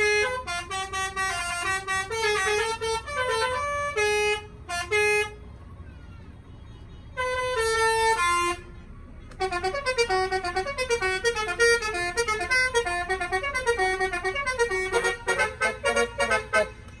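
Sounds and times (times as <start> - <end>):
musical vehicle horn melody: 0.0 - 5.6, 6.5 - 17.0.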